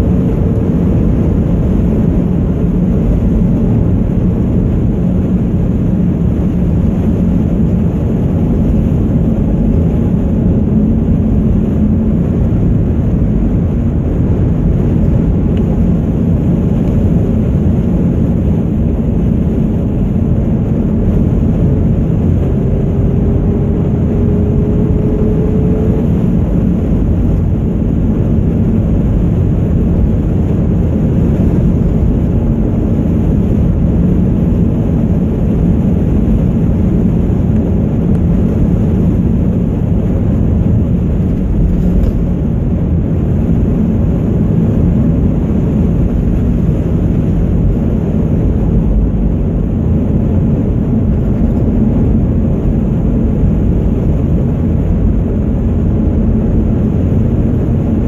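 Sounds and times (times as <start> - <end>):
car engine and tyre rumble: 0.0 - 58.0
faint whine: 0.0 - 58.0.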